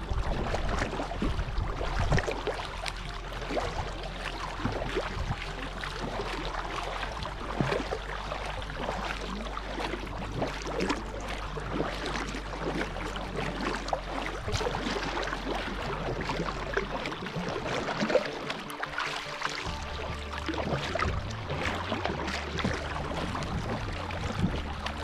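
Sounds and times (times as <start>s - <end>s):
paddle dipping through water: 0.0s - 25.0s
water splashing along hull: 0.0s - 25.0s.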